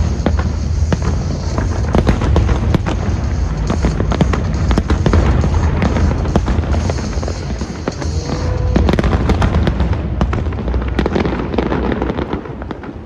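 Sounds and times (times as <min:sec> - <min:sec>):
deep rumble of fireworks booms: 0:00.0 - 0:13.0
fireworks cracking: 0:00.0 - 0:13.0.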